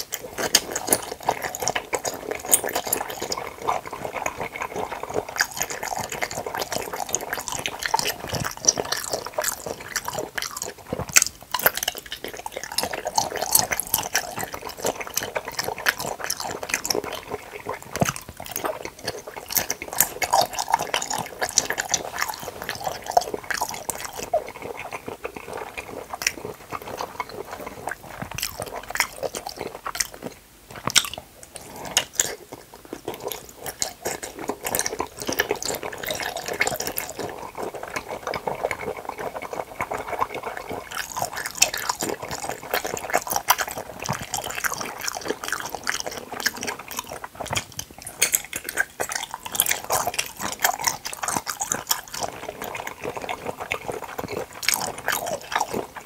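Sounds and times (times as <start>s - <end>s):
wet chewing of jelly: 0.0s - 56.0s.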